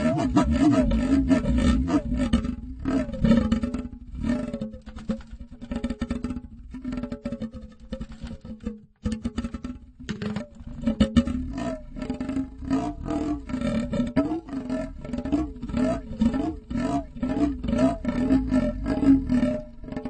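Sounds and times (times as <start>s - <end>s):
flexed saw blade warbling: 0.0s - 20.0s.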